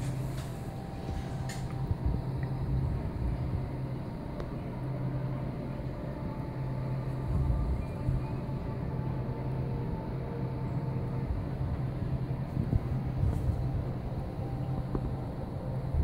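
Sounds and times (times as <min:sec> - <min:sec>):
filter pump rumble and hiss: 0:00.0 - 0:16.0
low electrical hum: 0:00.0 - 0:16.0.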